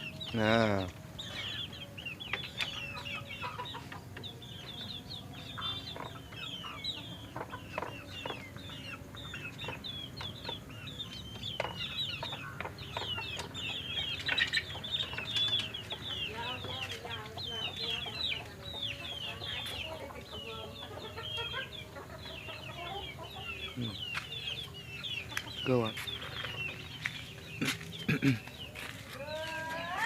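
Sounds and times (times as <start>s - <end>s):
chickens clucking: 0.0s - 30.0s
small birds chirping: 0.0s - 30.0s.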